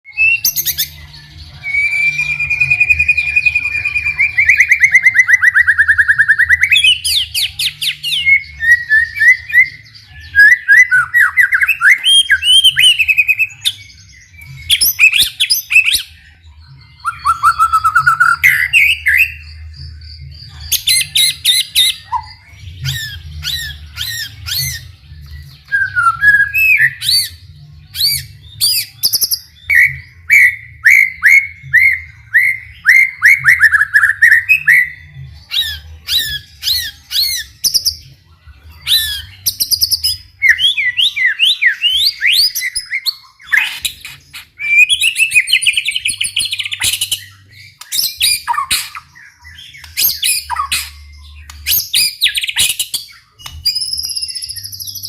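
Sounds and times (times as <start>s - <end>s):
songbird singing varied song: 0.1s - 55.0s.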